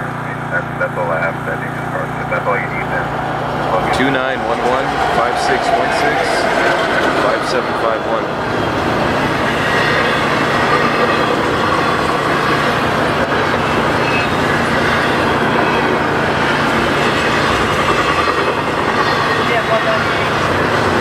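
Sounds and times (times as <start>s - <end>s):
freight train wheels on rails: 2.5s - 21.0s.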